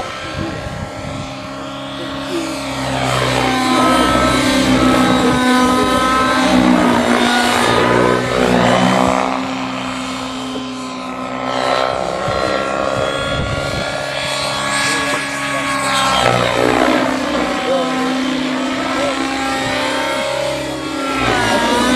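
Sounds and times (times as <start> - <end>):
rc helicopter engine and rotor: 0.0 - 21.9.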